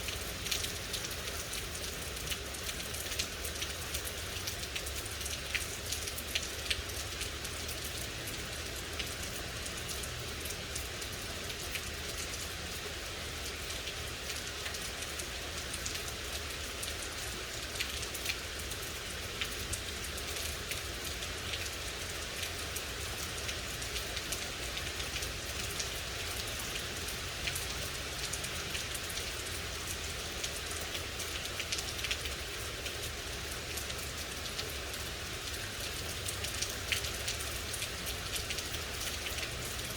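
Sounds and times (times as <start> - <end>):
raindrops ticking: 0.0 - 39.9
steady rain hissing: 0.0 - 39.9.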